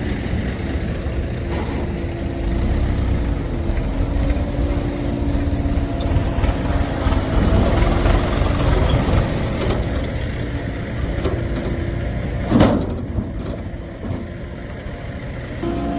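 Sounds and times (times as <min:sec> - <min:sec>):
heavy diesel engine rumbling: 0:00.0 - 0:15.9.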